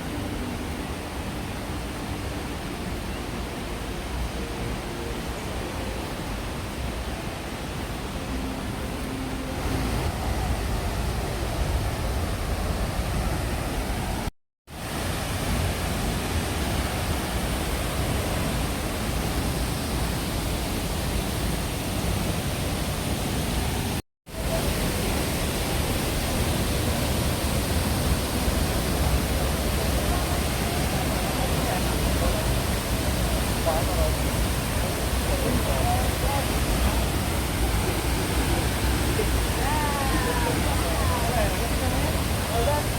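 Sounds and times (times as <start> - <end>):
waterfall rushing water: 0.0 - 42.9.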